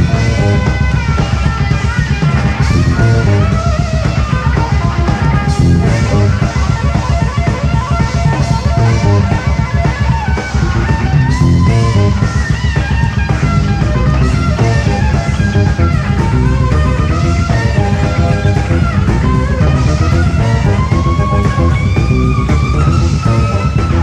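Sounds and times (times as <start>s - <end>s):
drums: 0.0s - 24.0s
electric bass: 0.0s - 24.0s
jazz fusion band playing: 0.0s - 24.0s
melodic lead with bent notes: 0.0s - 24.0s.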